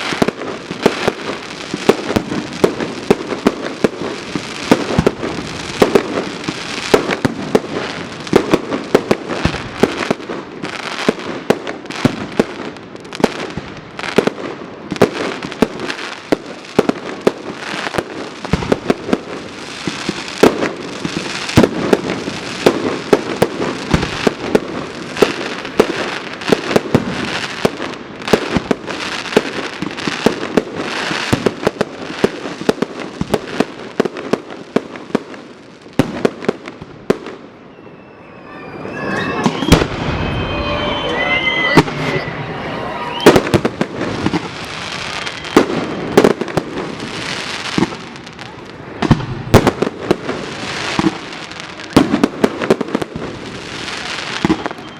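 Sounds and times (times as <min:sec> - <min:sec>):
firework bangs: 0:00.0 - 0:42.3, 0:43.0 - 0:54.9
firework crackling: 0:00.0 - 0:54.9.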